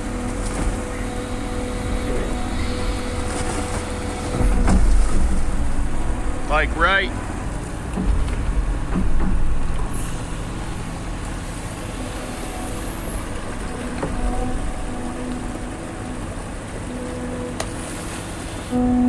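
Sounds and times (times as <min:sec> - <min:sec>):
excavator diesel engine running: 0:00.0 - 0:19.0
faint whine: 0:00.0 - 0:19.0.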